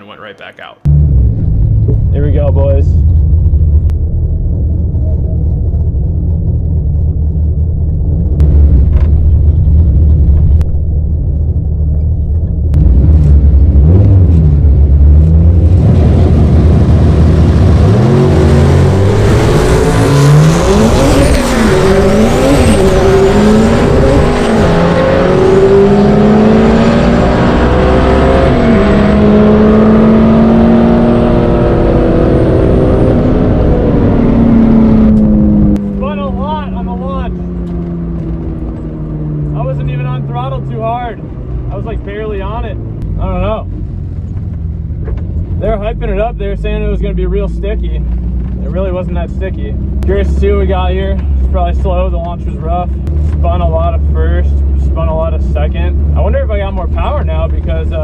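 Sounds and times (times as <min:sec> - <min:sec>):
car engine revving: 0:00.8 - 0:58.0
high whine: 0:00.8 - 0:58.0.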